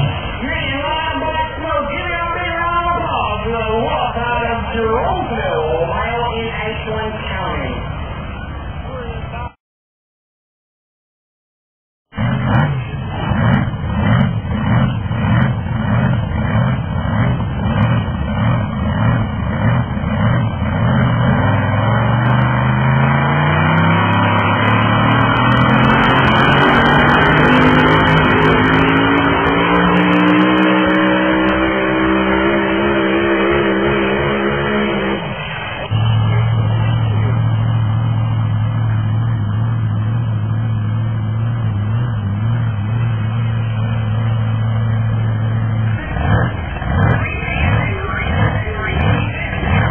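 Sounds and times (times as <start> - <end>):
tractor diesel engine under load: 0.0 - 9.6, 12.1 - 49.9.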